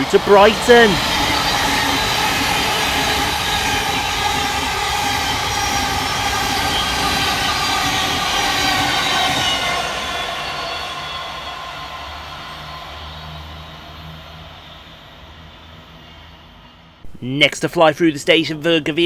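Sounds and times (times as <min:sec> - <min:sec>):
train wheels rushing on rail: 0:00.0 - 0:17.0
high whining train tones: 0:00.0 - 0:17.2.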